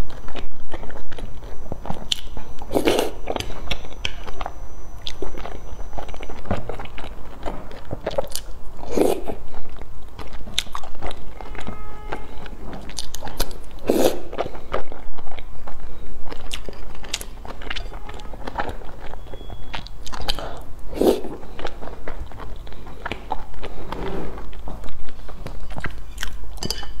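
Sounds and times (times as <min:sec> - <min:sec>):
person biting and chewing: 0:00.0 - 0:26.5.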